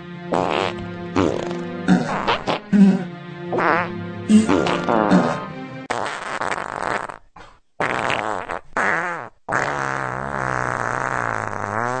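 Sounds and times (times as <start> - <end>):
fart sounds: 0.3 - 2.6, 3.5 - 12.0.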